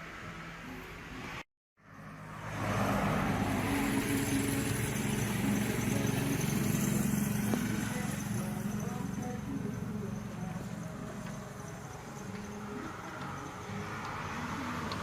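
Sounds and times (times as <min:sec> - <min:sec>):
diesel excavator engine running: 0:02.7 - 0:15.0.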